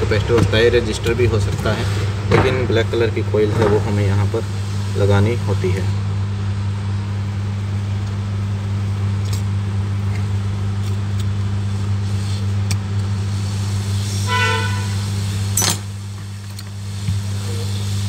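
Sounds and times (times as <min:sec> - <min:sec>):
hot-air station hum and hiss: 0:00.0 - 0:18.0.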